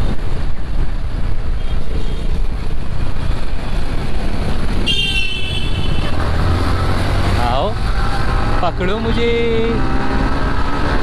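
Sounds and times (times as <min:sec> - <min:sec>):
motorcycle engine and road rumble: 0:00.0 - 0:11.0.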